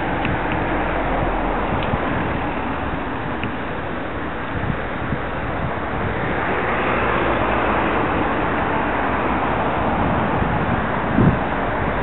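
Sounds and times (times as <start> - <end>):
road traffic: 0.0 - 12.0
wind rushing on microphone: 0.0 - 12.0.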